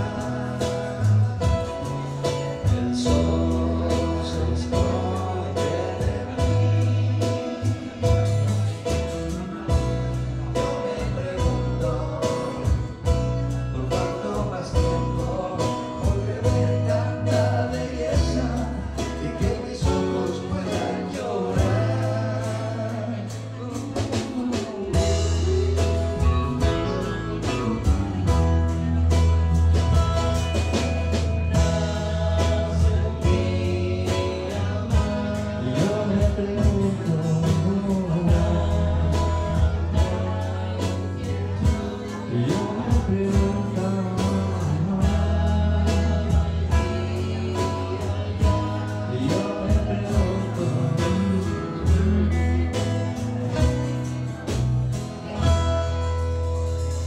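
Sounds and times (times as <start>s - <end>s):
acoustic guitars: 0.0s - 57.0s
drum kit steady beat: 0.0s - 57.0s
electric bass: 0.0s - 57.0s
voices singing: 0.0s - 57.0s.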